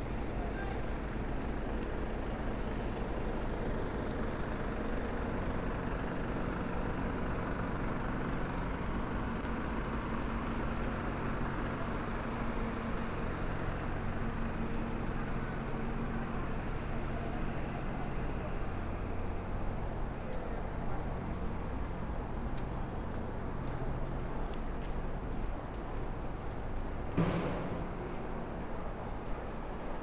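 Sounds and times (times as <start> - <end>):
city street noise: 0.0 - 30.0
large vehicle engine idling: 0.0 - 30.0.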